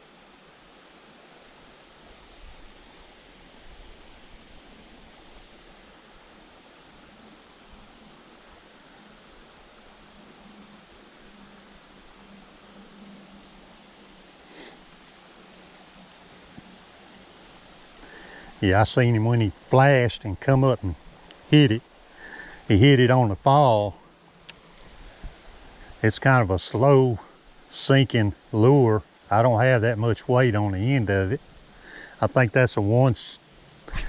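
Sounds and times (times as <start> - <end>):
crickets trilling: 0.0 - 34.0
soft background hiss: 0.0 - 34.0.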